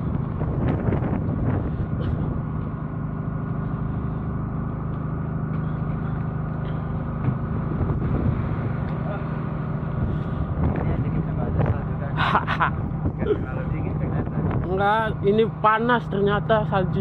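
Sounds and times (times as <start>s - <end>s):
ship engine droning: 0.0s - 17.0s.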